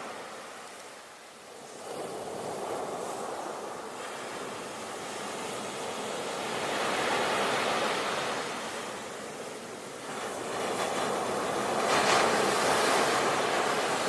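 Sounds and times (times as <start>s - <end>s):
sea waves washing ashore: 0.0s - 14.0s.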